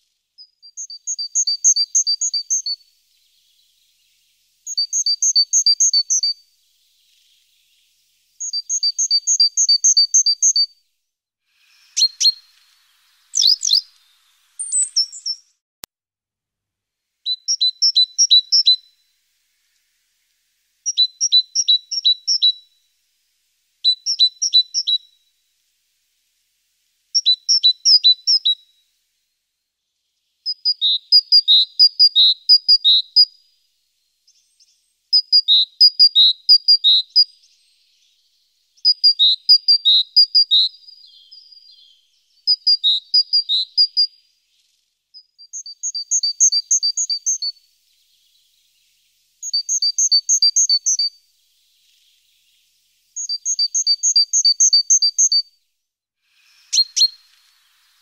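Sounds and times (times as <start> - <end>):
songbird singing: 0.0 - 10.9, 11.6 - 15.6, 17.2 - 58.0.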